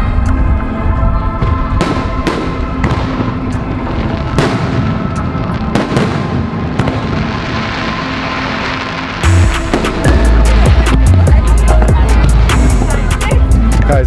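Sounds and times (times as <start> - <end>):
music with held notes: 0.0 - 14.0
fireworks exploding: 1.4 - 14.0.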